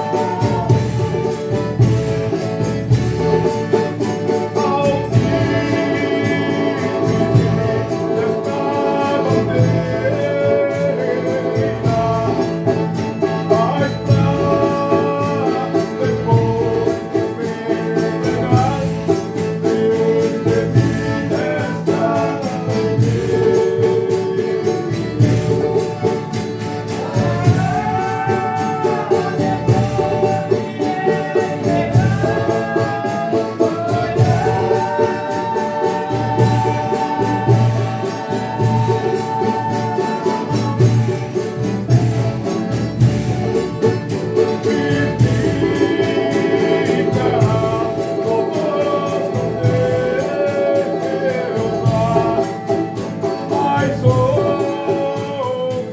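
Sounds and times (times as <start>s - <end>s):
group singing: 0.0s - 55.9s
hand percussion beat: 0.0s - 55.9s
string instruments: 0.0s - 55.9s.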